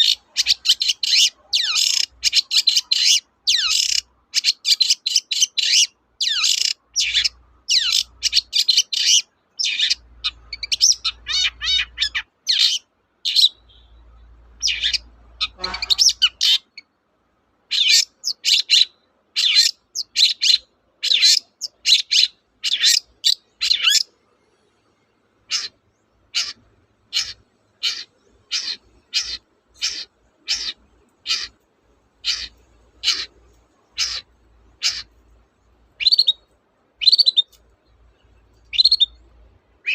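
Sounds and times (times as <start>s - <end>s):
shrike chattering and calling: 0.0s - 14.0s, 14.6s - 16.8s, 17.7s - 24.1s, 25.5s - 31.6s, 32.2s - 35.2s, 35.9s - 37.7s, 38.3s - 39.9s.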